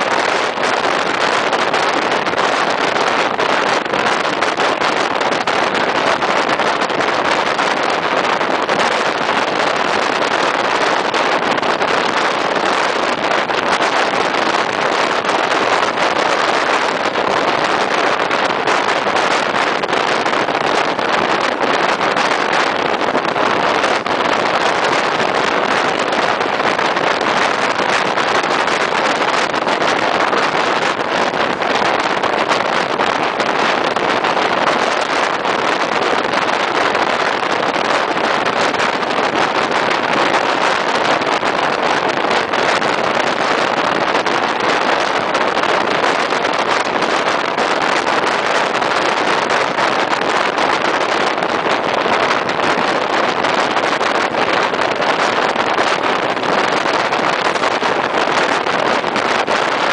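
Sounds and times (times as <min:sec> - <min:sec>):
air rushing past microphone: 0:00.0 - 0:59.9.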